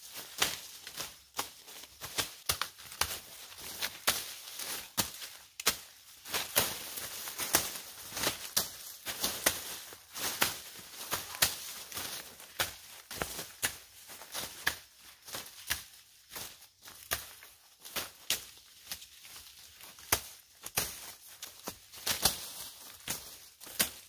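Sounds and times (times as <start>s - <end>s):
dry stalks and leaves rustling: 0.0s - 24.0s
blade chopping dry corn stalks: 0.1s - 24.0s.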